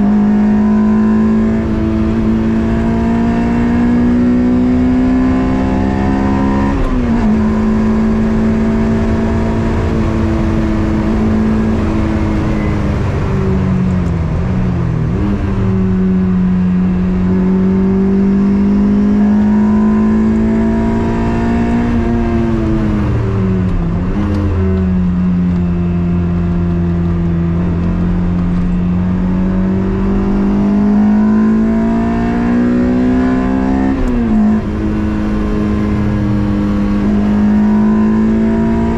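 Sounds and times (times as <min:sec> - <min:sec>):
car engine under load: 0:00.0 - 0:38.9.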